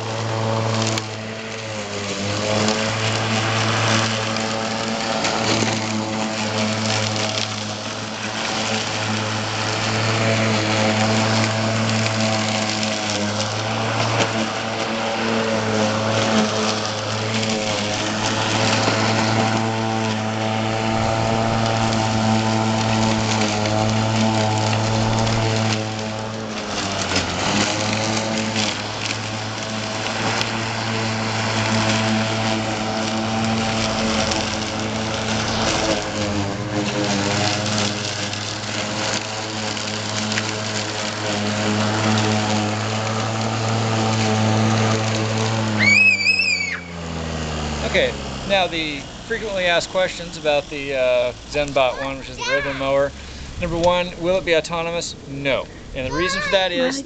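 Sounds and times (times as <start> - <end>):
electric mower motor humming: 0.0 - 57.0.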